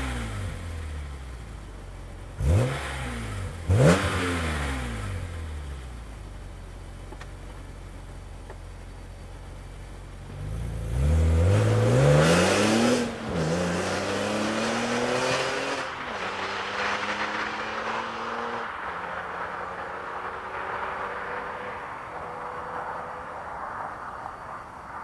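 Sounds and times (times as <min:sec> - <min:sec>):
car engine revving: 0:00.0 - 0:06.2, 0:09.2 - 0:24.9.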